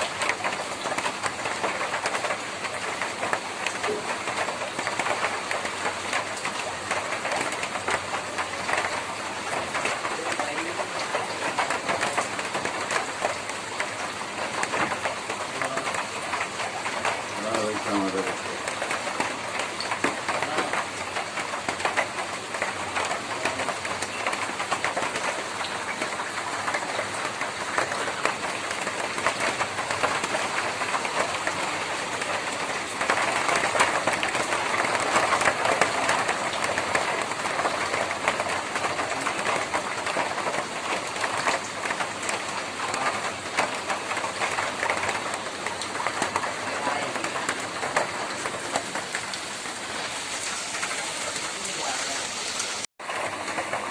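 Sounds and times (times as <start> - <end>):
rain on a tin roof: 0.0 - 53.9.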